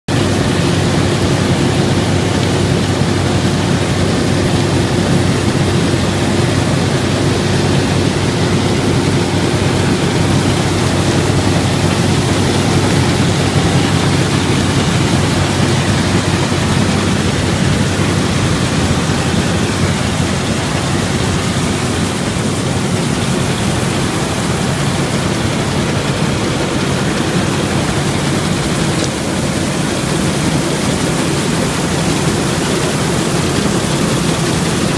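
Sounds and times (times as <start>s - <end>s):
combine harvester threshing: 0.1s - 34.9s
constant low hum: 0.1s - 34.9s.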